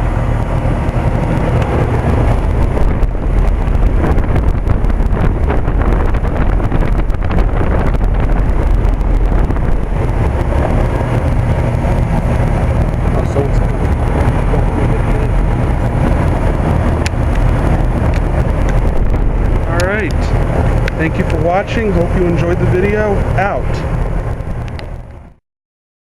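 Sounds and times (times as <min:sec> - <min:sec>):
air conditioner unit humming: 0:00.0 - 0:25.3
fan air rushing: 0:00.0 - 0:25.4.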